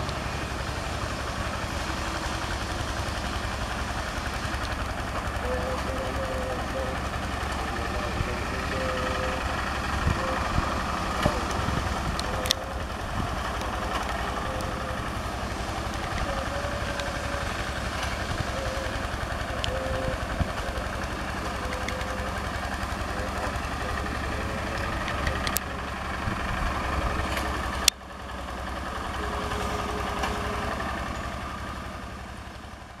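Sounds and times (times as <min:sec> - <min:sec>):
diesel engine chugging: 0:00.0 - 0:33.0.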